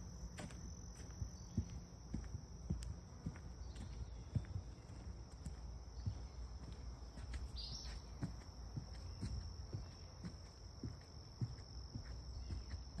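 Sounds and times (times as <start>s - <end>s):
footsteps on a trail: 0.0s - 13.0s
high insect trill: 0.0s - 13.0s.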